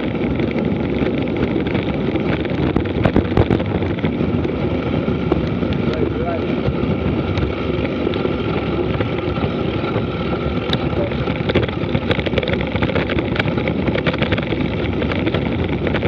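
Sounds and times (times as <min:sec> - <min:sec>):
clicks and clatter of loose stones: 0:00.0 - 0:16.0
mountain bike rattling downhill: 0:00.0 - 0:16.0
wind rushing over microphone: 0:00.0 - 0:16.0.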